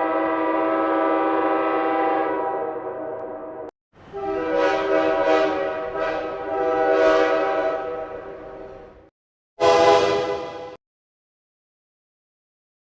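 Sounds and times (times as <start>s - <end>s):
train horn chord blasts: 0.0s - 10.8s.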